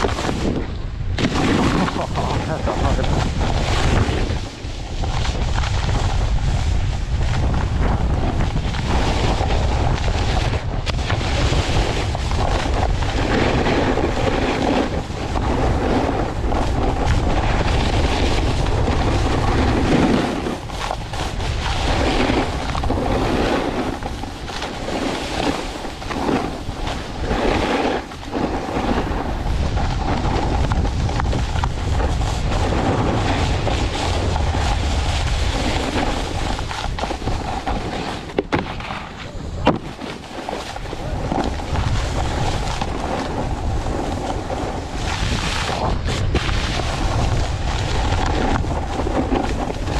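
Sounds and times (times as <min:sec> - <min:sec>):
snowboard edges scraping snow: 0:00.0 - 0:49.9
wind buffeting camera: 0:00.0 - 0:49.9.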